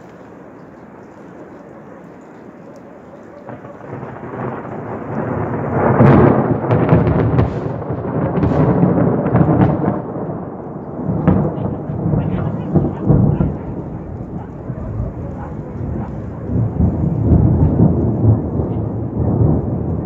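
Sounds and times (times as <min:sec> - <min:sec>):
thunder rumbling and crackling: 0:00.0 - 0:20.0.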